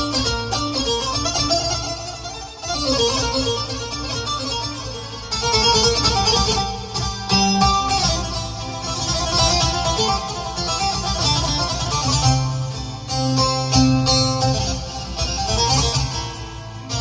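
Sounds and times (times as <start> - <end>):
plucked-string lead melody: 0.0 - 17.0.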